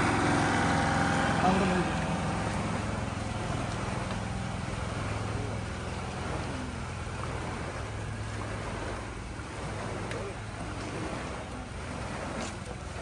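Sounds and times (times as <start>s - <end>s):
boat engine idling: 0.0s - 13.0s
water splashing: 0.0s - 13.0s.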